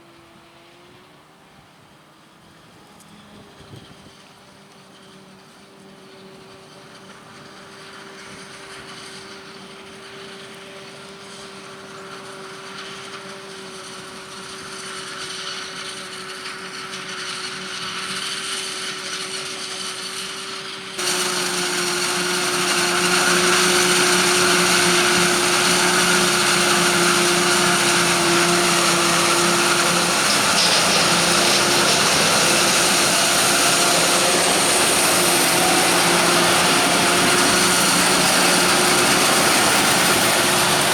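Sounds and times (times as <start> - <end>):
harvesting machinery whine: 7.0 - 40.9.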